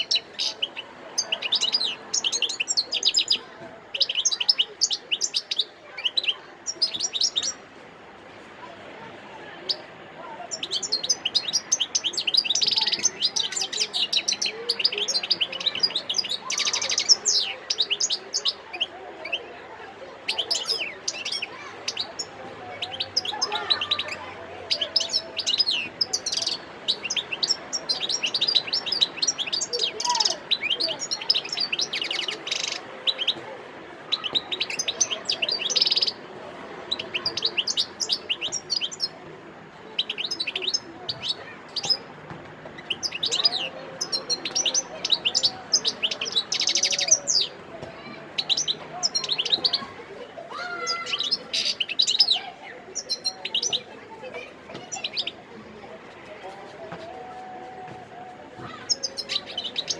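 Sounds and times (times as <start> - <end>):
goldfinch singing: 0.0 - 7.6, 10.5 - 19.5, 20.3 - 33.4, 34.1 - 36.2, 36.9 - 39.2, 40.0 - 47.6, 48.3 - 49.9, 50.7 - 53.9, 54.8 - 55.4, 58.6 - 59.9.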